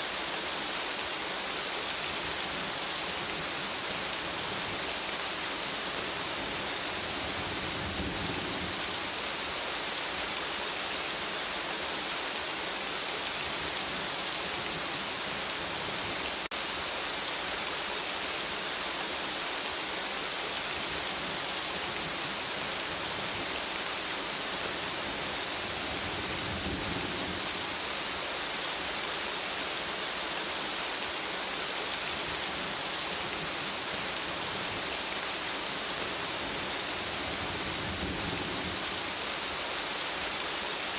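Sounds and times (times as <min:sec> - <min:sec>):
rain falling on foliage: 0:00.0 - 0:40.9.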